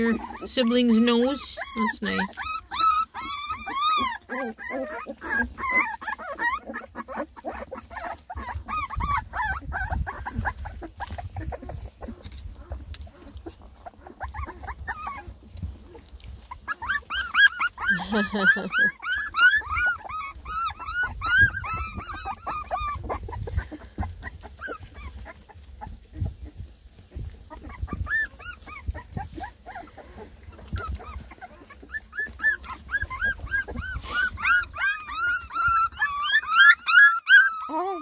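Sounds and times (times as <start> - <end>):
puppies whining and crying: 0.0 - 38.0.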